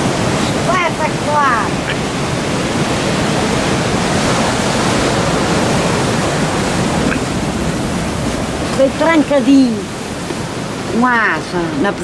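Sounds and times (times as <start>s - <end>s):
sea surf washing against rocks: 0.0s - 12.0s.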